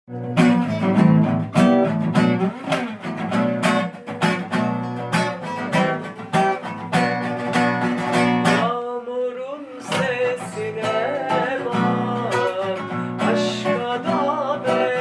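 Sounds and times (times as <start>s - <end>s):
acoustic guitar strumming chords: 0.1s - 15.0s.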